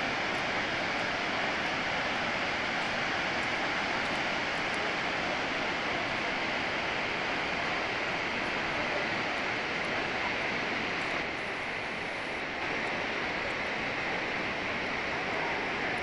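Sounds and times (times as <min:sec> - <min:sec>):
water rushing down spillway: 0:00.0 - 0:16.0.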